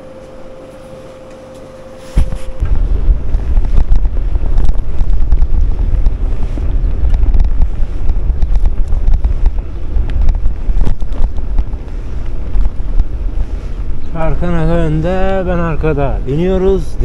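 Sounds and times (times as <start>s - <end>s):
strong wind buffeting microphone: 2.2s - 17.0s.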